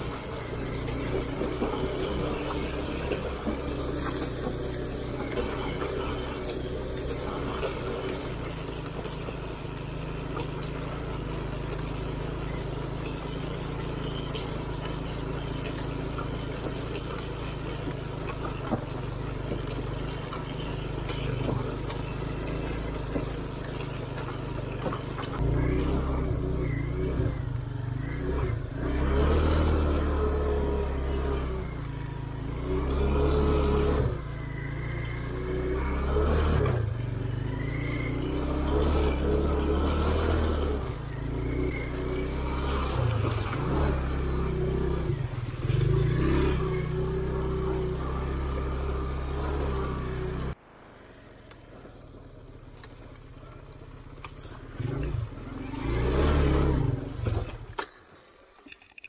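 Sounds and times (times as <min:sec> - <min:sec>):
motorcycle engine revving: 0:00.0 - 0:58.1.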